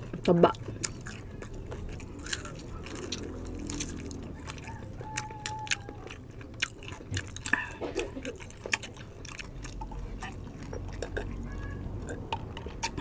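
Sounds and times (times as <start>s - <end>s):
crunchy skin crackling: 0.0s - 13.0s
wet chewing: 0.0s - 13.0s.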